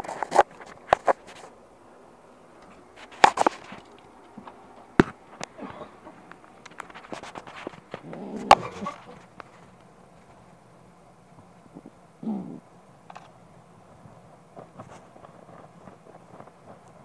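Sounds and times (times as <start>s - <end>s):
rustling: 0.0s - 12.1s, 13.0s - 17.0s.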